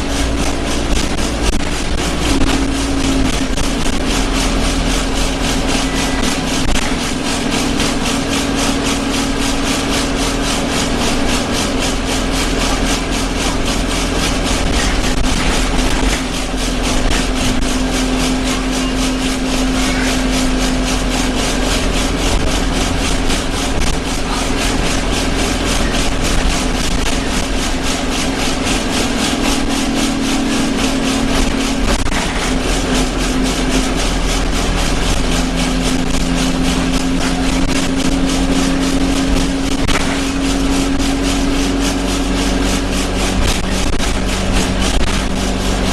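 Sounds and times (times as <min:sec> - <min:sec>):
bus body rattling: 0:00.0 - 0:45.9
bus engine drone: 0:00.0 - 0:45.9.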